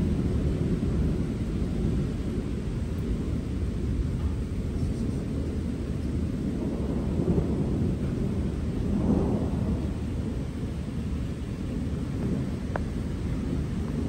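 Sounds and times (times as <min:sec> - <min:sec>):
rain hiss: 0:00.0 - 0:14.0
rolling thunder: 0:00.0 - 0:14.0.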